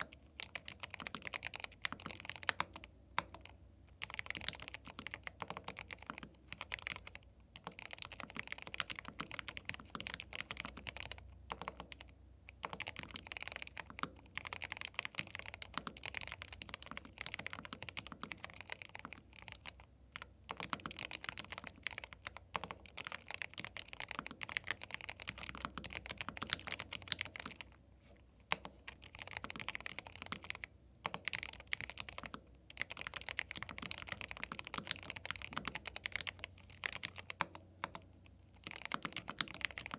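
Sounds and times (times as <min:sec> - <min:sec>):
fast typing on mechanical keyboard: 0:00.0 - 0:27.8, 0:28.5 - 0:38.0, 0:38.6 - 0:39.9.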